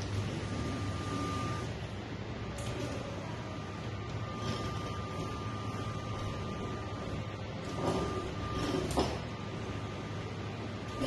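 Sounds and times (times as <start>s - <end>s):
robot electric motors running: 0.0s - 9.8s
steady low hum: 0.0s - 11.0s.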